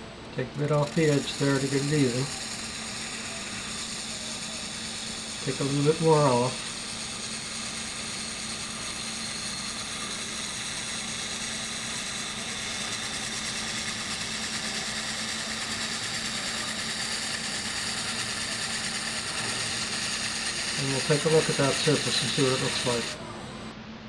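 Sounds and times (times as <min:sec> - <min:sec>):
wood lathe motor hum: 0:00.0 - 0:23.7
turning tool shaving wood: 0:00.4 - 0:23.7.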